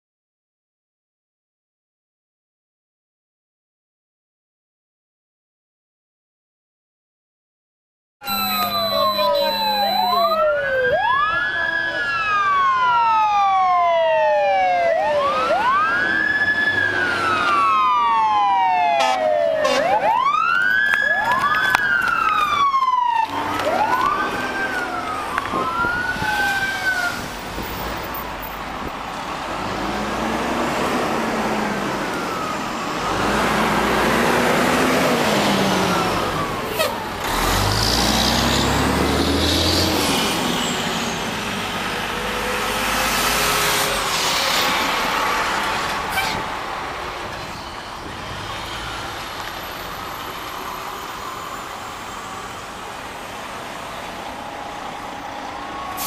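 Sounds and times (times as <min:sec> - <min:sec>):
emergency siren wailing: 0:08.2 - 0:56.0
faint sirens: 0:08.2 - 0:56.0
traffic and engine noise: 0:08.2 - 0:56.0.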